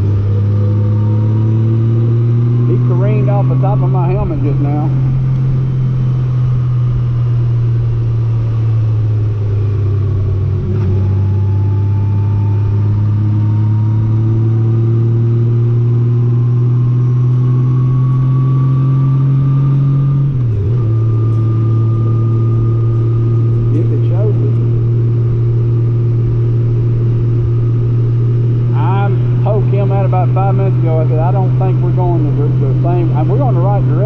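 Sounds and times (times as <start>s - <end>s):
motorcycle engine at road speed: 0.0s - 34.0s
road and wind noise: 0.0s - 34.0s.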